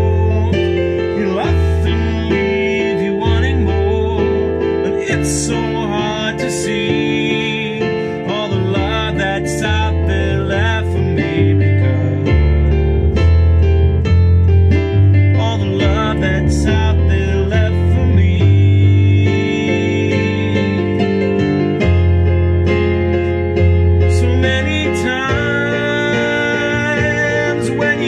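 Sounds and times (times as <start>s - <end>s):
man singing slow song: 0.0s - 12.8s, 14.7s - 21.5s, 24.0s - 28.0s
digital piano chords: 0.0s - 28.0s.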